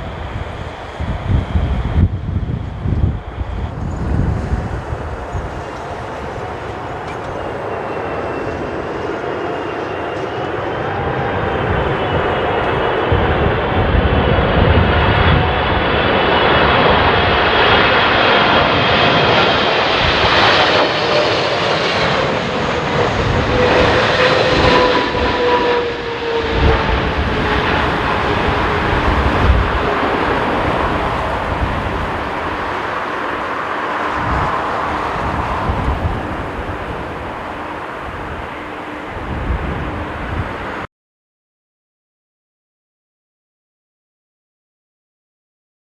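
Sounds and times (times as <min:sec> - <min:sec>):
jet engines rushing and whining: 0:00.0 - 0:40.9
wind rumbling on microphone: 0:00.0 - 0:40.9.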